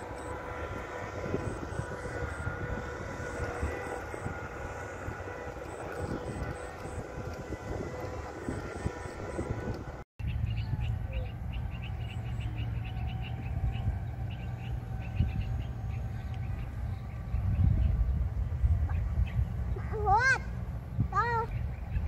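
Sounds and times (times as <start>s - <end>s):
diesel engine running: 0.0s - 21.9s
low rumble: 0.0s - 22.0s.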